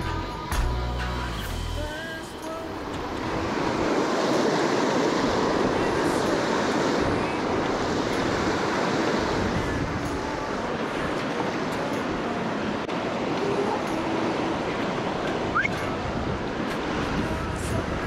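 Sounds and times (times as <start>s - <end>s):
creek water rushing: 1.2s - 18.0s.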